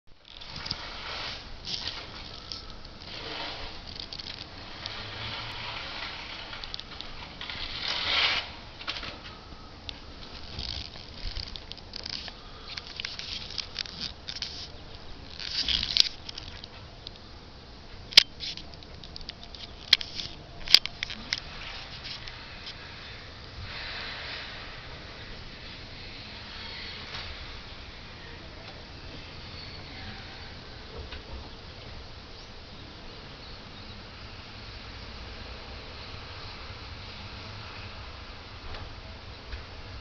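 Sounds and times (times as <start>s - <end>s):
light crackle: 0.1s - 40.0s.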